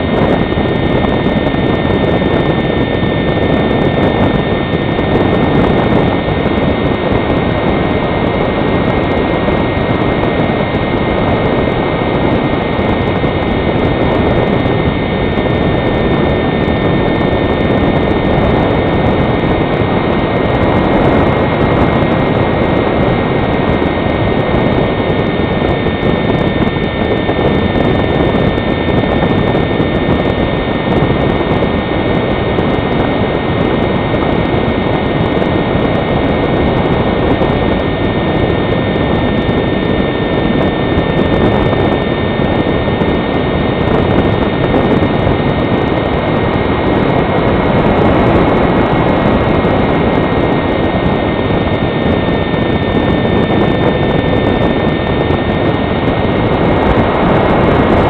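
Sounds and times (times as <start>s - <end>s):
faint high whine: 0.0s - 58.0s
rush of air over camera: 0.0s - 58.0s.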